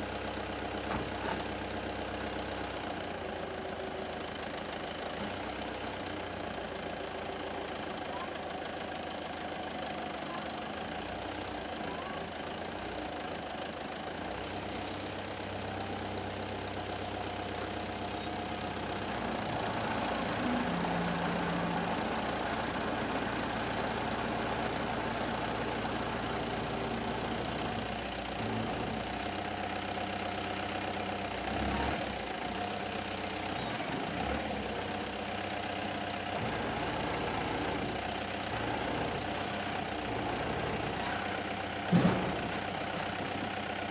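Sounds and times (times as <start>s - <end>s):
truck engine idling: 0.0s - 43.9s.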